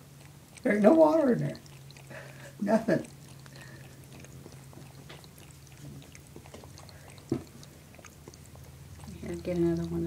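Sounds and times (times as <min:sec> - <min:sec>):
cat licking tongue clicks: 0:00.0 - 0:10.0.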